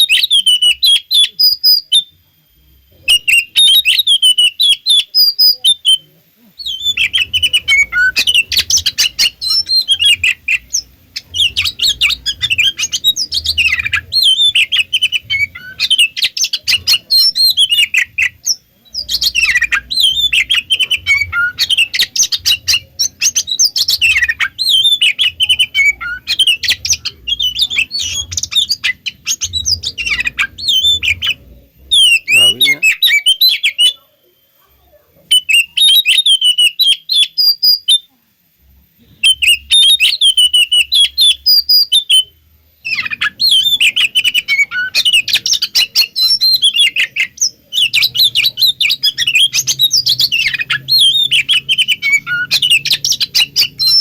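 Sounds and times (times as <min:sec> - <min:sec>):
bird singing chattering song: 0:00.0 - 0:34.5, 0:35.2 - 0:38.1, 0:39.0 - 0:54.0.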